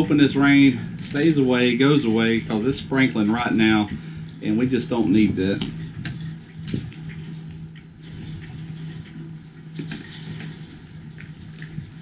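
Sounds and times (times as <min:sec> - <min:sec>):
footsteps on boat deck: 0:00.0 - 0:12.0
low hum and hiss: 0:00.0 - 0:12.0.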